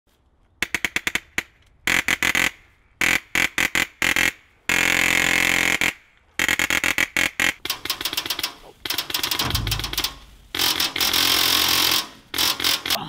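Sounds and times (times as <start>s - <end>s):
airsoft rifle firing bursts: 1.9s - 13.0s.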